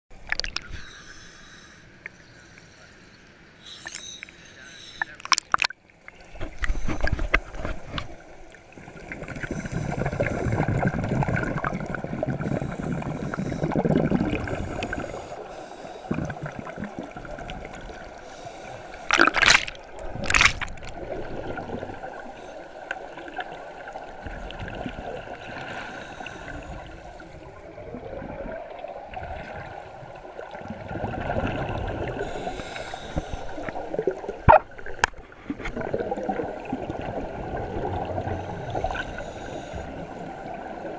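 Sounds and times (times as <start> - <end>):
underwater bubbles gurgling: 0.1 - 1.1, 4.9 - 40.9.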